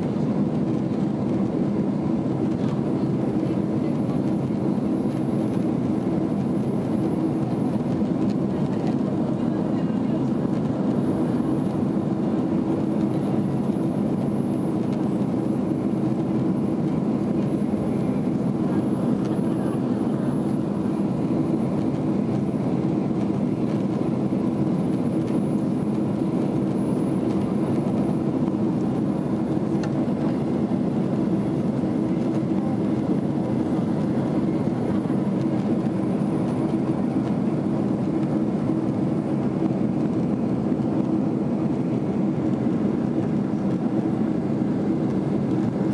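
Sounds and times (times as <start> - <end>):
airliner engine and airflow drone: 0.0 - 45.9.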